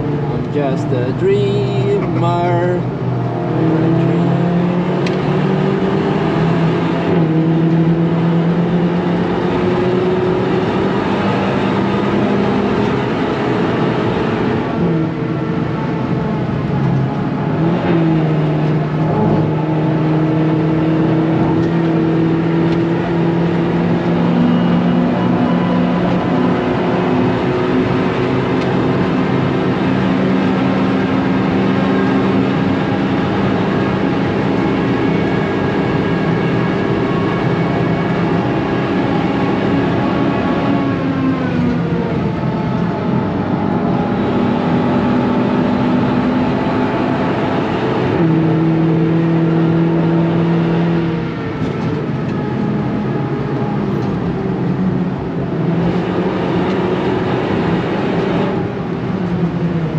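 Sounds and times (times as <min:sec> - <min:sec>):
car engine at high speed: 0:00.0 - 0:59.9
road noise: 0:00.0 - 0:59.9.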